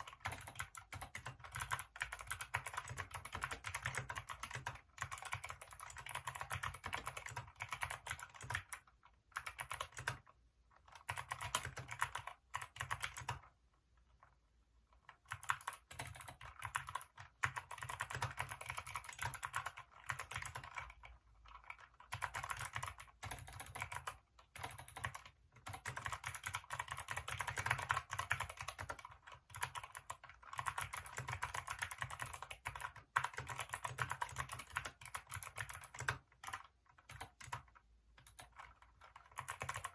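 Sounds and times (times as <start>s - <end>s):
mechanical keyboard typing fast: 0.0s - 13.6s, 15.0s - 39.9s.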